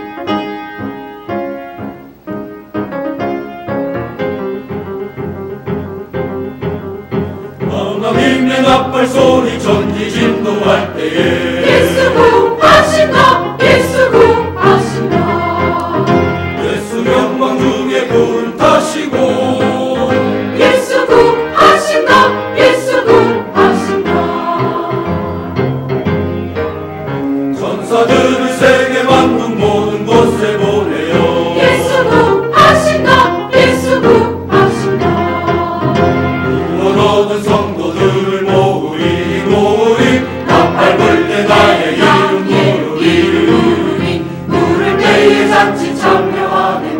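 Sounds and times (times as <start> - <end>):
church choir singing: 7.6 - 26.5, 27.2 - 46.9.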